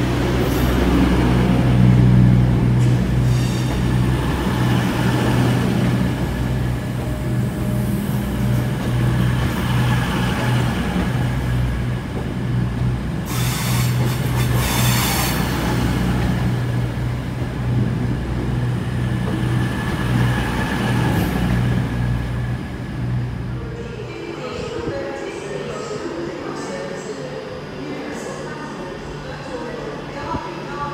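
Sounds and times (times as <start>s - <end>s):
train running with deep hum: 0.0s - 24.9s.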